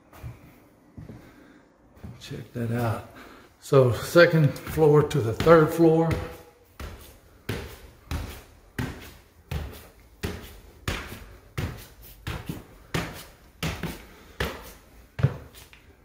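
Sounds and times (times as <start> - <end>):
footsteps on wooden stairs: 0.1 - 16.0.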